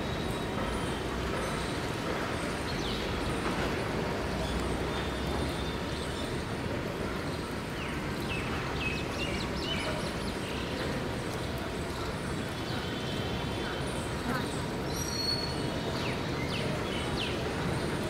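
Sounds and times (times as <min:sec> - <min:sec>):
train coaches rumbling: 0:00.0 - 0:14.9.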